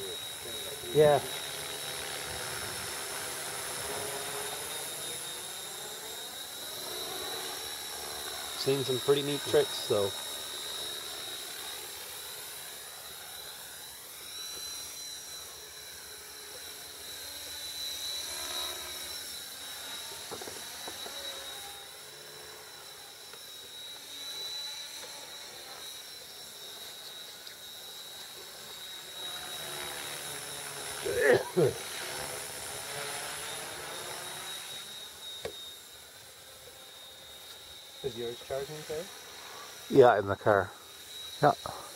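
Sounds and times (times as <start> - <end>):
model helicopter rotor whine: 0.0 - 41.9.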